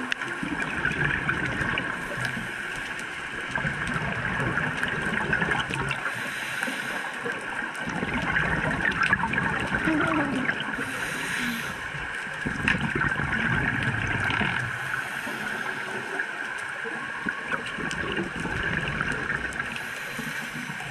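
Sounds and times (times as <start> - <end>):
scuba breathing bubbles: 0.0 - 20.9
underwater crackling hiss: 0.0 - 20.9.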